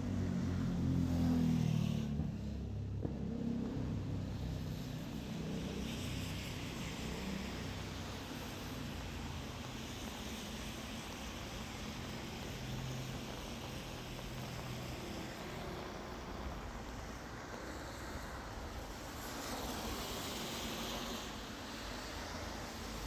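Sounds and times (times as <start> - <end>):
steady rain falling: 3.6 - 23.0.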